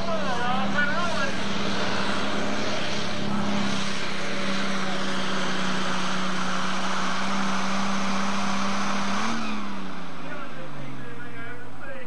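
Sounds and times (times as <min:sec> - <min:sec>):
tractor engine at full load: 0:00.0 - 0:12.0.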